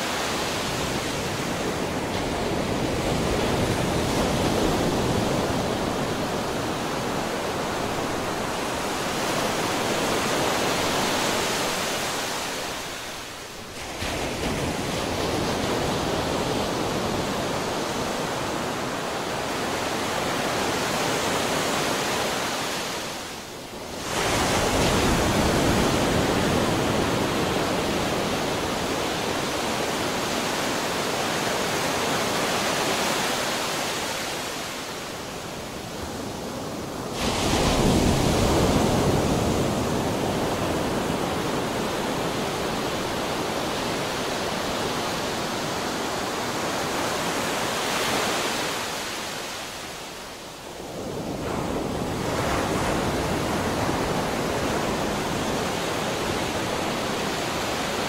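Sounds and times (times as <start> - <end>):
waves washing: 0.0 - 58.0.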